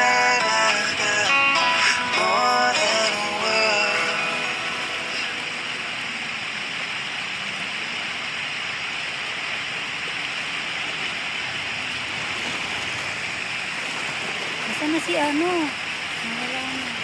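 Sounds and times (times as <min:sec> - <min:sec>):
water rushing hiss: 0:00.0 - 0:17.0.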